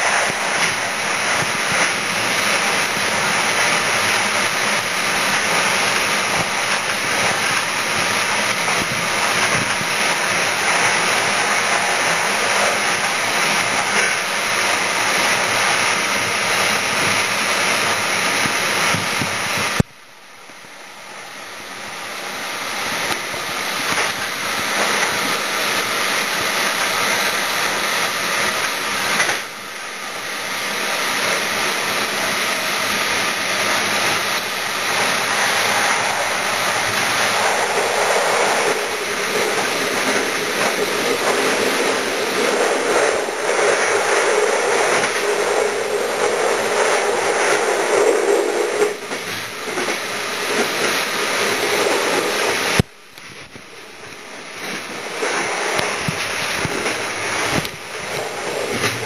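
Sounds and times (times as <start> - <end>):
train cab rushing noise: 0.0 - 19.8, 22.3 - 59.0.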